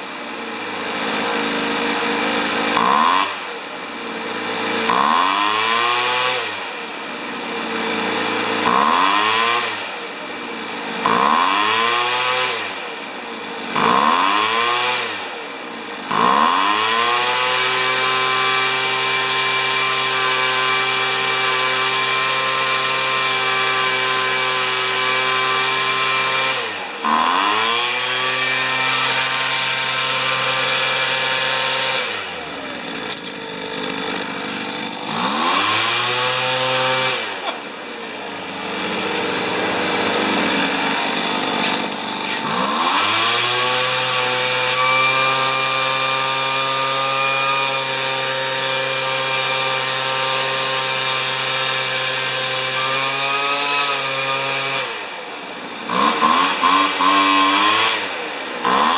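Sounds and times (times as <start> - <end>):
leaf blower engine revving: 0.0 - 58.9.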